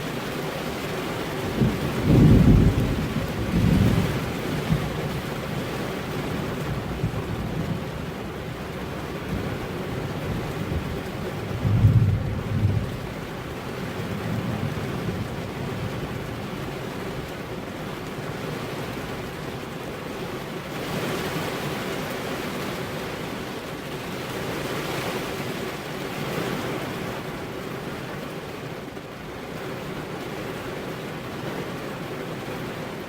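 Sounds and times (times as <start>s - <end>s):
rain on car window: 0.0s - 33.0s.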